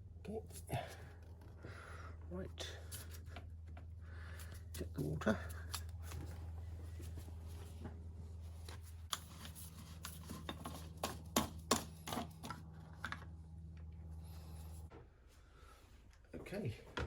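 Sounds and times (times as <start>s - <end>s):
low hum: 0.0s - 16.2s.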